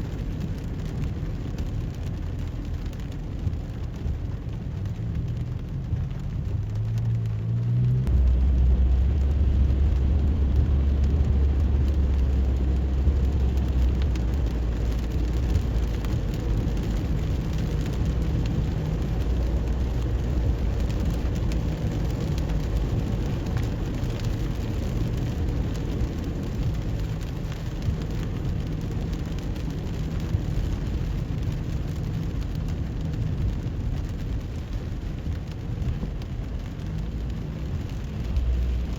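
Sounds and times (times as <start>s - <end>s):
low engine hum: 0.0s - 38.9s
rain hissing: 0.0s - 38.9s
tyres on wet road: 0.0s - 38.9s.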